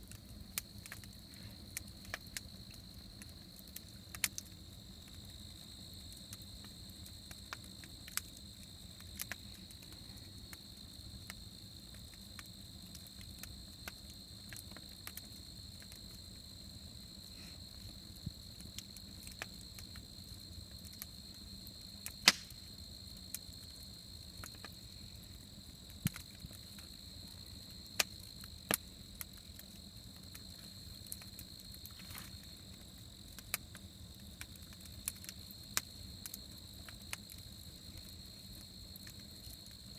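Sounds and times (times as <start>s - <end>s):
campfire crackling and popping: 0.0s - 39.9s
crickets chirping: 0.3s - 39.9s.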